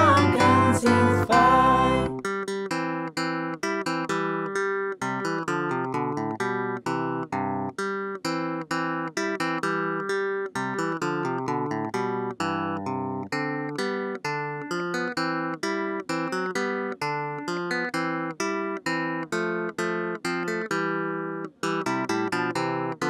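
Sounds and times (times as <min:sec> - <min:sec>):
plucked string instrument music: 0:00.0 - 0:23.0.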